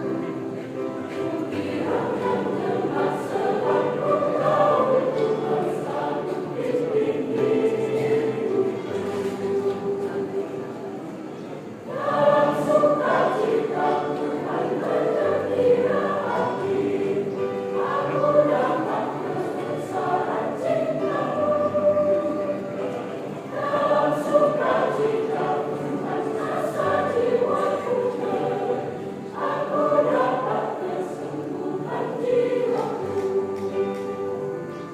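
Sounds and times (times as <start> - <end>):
choir singing a hymn: 0.0 - 34.9
steady accompaniment: 0.0 - 34.9.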